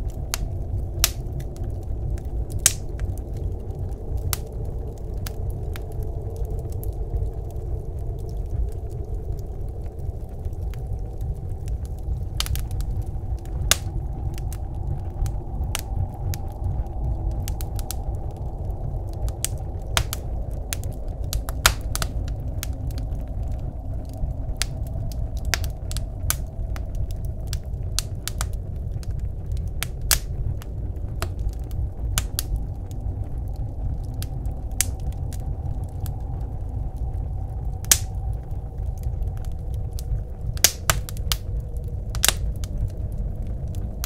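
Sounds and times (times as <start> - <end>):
blizzard wind rumbling: 0.0 - 44.0
wood fire crackling in a stove: 0.0 - 44.0.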